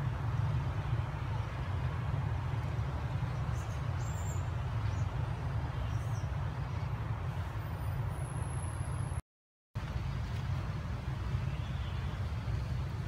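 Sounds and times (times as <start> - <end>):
low outdoor rumble: 0.0 - 9.2, 9.8 - 13.0.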